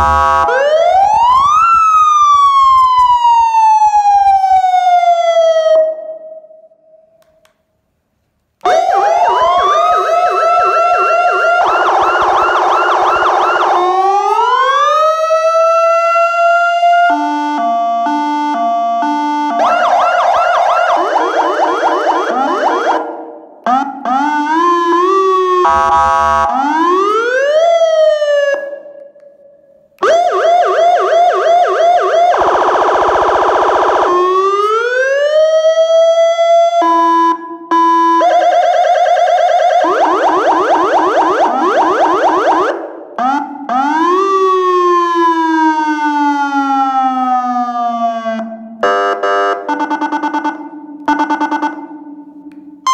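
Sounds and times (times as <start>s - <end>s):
electronic siren: 0.0s - 7.1s, 8.6s - 52.9s.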